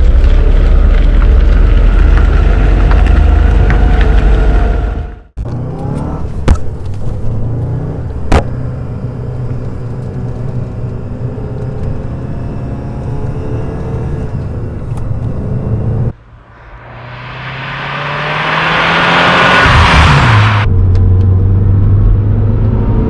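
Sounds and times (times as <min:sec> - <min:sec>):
car engine running: 0:00.0 - 0:22.5.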